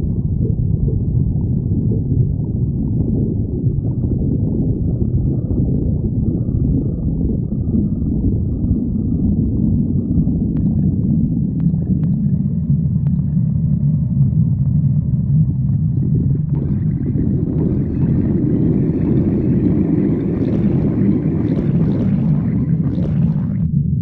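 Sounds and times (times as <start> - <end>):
stomach growling: 0.0 - 24.0.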